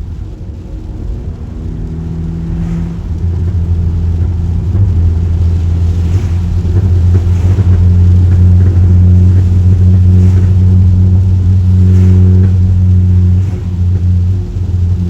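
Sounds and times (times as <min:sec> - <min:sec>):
loud car exhaust: 0:00.0 - 0:15.0.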